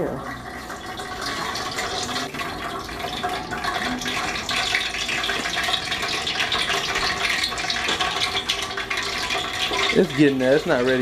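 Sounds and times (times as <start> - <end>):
grease sizzling in a frying pan: 0.0 - 11.0.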